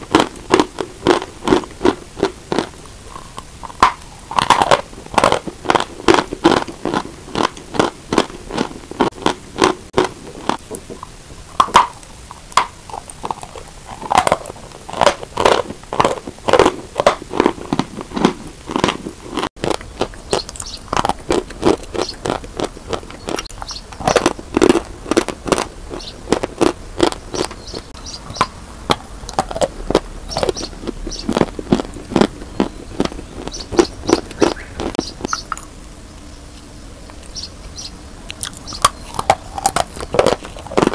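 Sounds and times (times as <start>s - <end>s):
chalk being chewed crunching: 0.0s - 35.7s, 38.3s - 40.9s.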